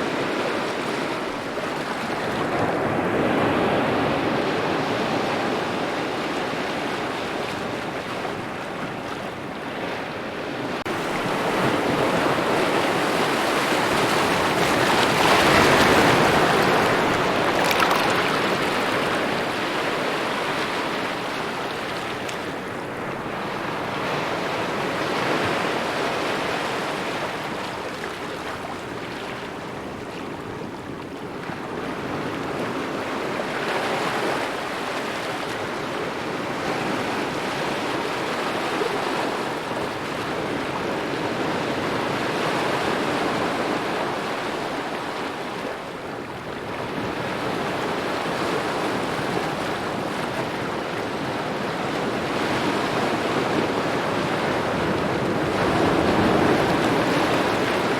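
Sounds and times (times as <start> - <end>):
small waves lapping on shore: 0.0 - 57.9.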